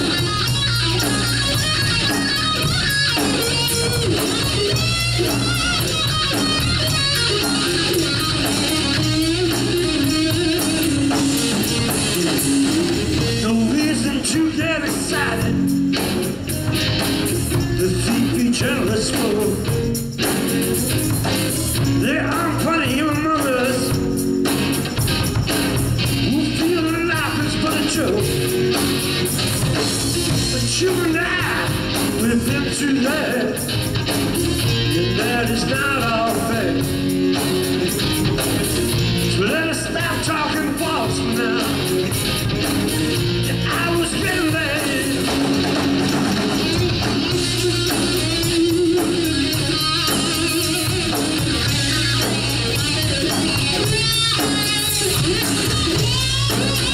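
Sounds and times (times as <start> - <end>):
bass guitar: 0.0 - 56.9
drums: 0.0 - 56.9
electric guitar: 0.0 - 56.9.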